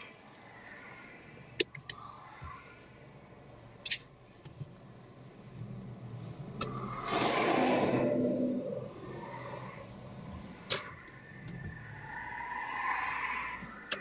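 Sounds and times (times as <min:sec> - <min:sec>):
low steady car hum: 0:00.0 - 0:14.0.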